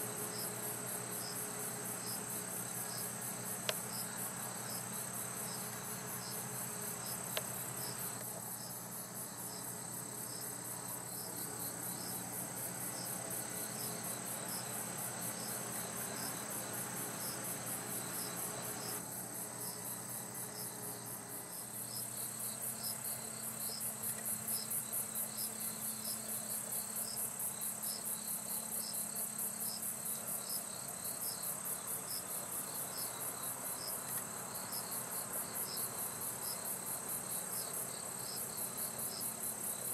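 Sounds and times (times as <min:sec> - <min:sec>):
insect chirps: 0:00.0 - 0:39.9
insects trilling: 0:00.0 - 0:39.9.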